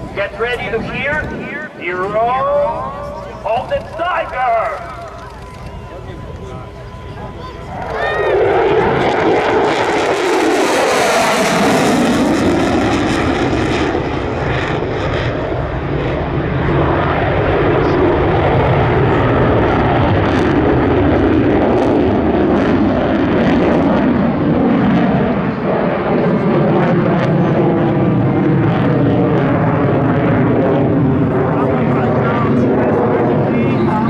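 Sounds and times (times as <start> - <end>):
fighter jet roaring: 0.0 - 34.0.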